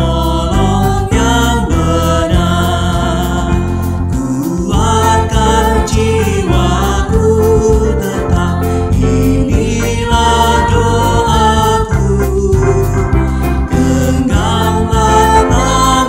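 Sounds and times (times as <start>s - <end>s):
mixed voices singing a hymn: 0.0s - 16.0s
rhythmic instrumental accompaniment: 0.0s - 16.0s.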